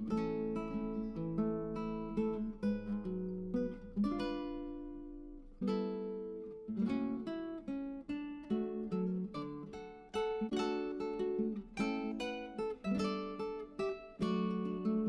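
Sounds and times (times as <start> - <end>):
acoustic guitar plucking and strumming: 0.0 - 15.0.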